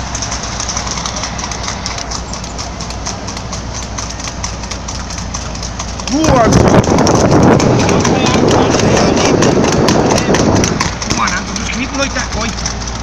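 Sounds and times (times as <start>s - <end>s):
car engine and road noise: 0.0s - 13.0s
horse hooves clip-clopping on tarmac: 0.0s - 13.0s.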